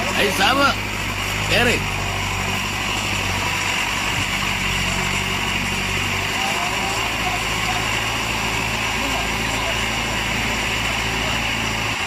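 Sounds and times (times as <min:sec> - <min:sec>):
jeep engine running: 0:00.0 - 0:12.0.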